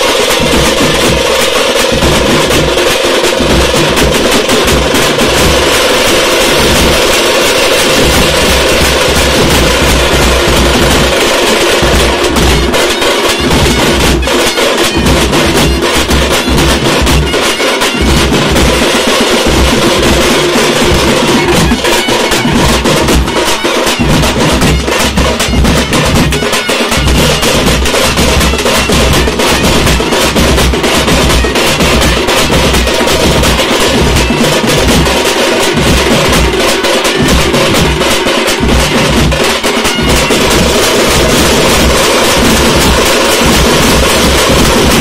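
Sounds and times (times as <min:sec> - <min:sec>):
frame drums beaten with sticks: 0:00.0 - 0:45.0
side drums: 0:00.0 - 0:45.0.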